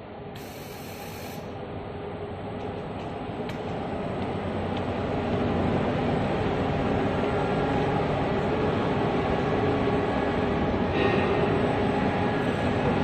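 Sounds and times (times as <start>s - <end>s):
industrial machinery rumble: 1.5s - 13.0s.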